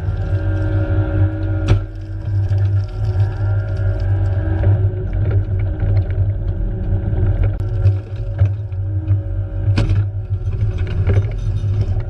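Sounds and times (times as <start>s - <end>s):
excavator engine humming: 0.0s - 12.0s.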